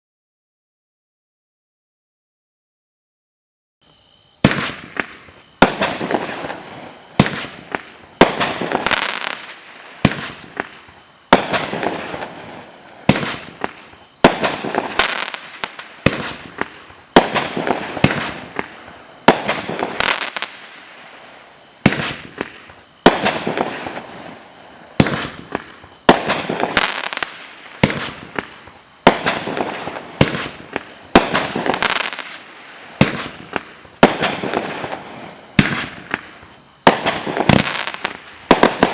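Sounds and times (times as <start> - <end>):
firework reports with noisy trails: 4.4 - 38.9.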